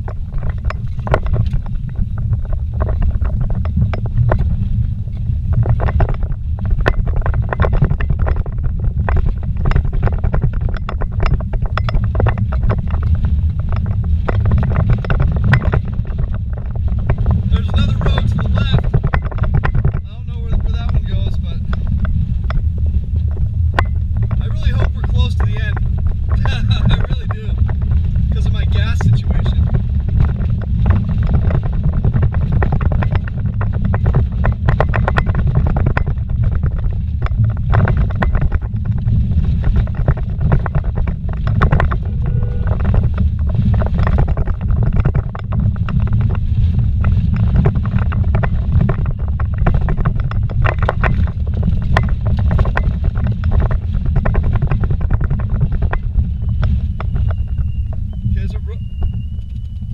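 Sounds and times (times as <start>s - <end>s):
engine and tyre rumble: 0.0s - 59.9s
rattles and knocks from bumps: 0.0s - 59.9s.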